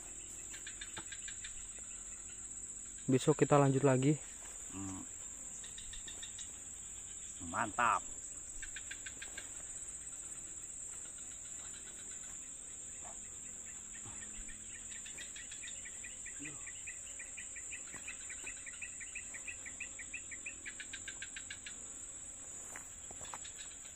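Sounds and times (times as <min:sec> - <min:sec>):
cricket drone: 0:00.0 - 0:23.9
rapid insect chirps: 0:00.0 - 0:23.9.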